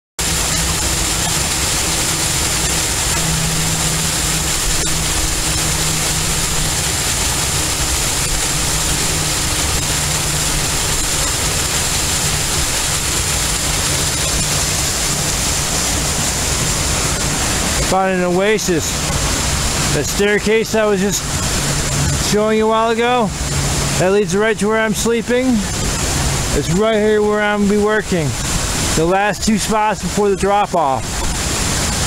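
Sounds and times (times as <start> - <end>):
waterfall pouring over rocks: 0.2 - 32.0.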